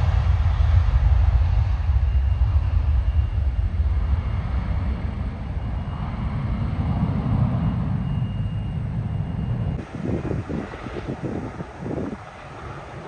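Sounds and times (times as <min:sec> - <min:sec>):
jet engines rumbling: 0:00.0 - 0:13.0
faint high whine: 0:00.8 - 0:13.0.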